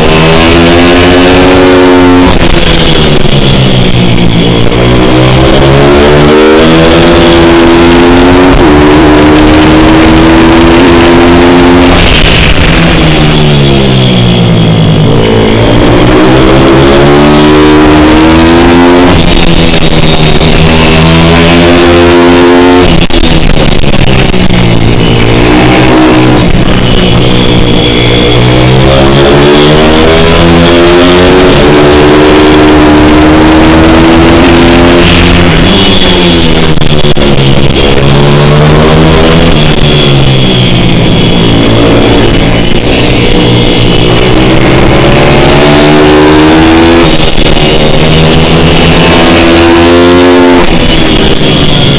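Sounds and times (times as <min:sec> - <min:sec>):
motorbike engine revving: 0:00.0 - 0:51.9.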